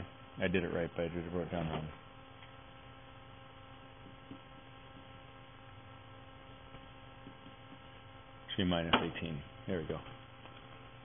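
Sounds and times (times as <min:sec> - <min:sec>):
electrical hum with tones: 0:00.0 - 0:11.0.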